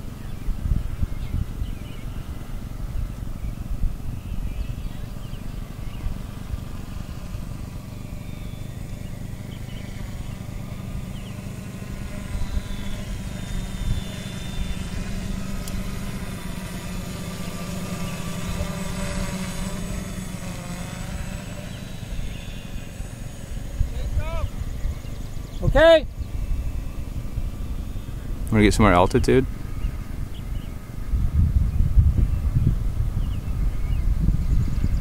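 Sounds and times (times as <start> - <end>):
drone motor whine: 0.0 - 35.0
wind rumble on microphone: 0.0 - 35.0.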